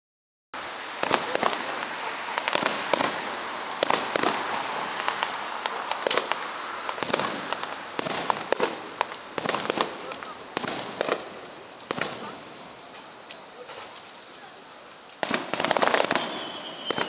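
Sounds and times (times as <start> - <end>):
fireworks crackling: 0.6 - 17.0
fireworks sharp bangs: 0.9 - 12.8, 15.2 - 17.0.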